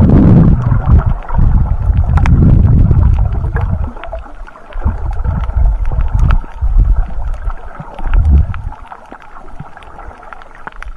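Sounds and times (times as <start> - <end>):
underwater water surging: 0.0 - 10.9.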